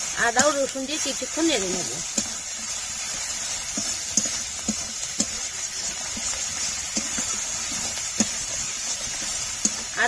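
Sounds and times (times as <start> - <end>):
paste sizzling in a pan: 0.0 - 10.0
spatula tapping and scraping pan: 0.0 - 10.0.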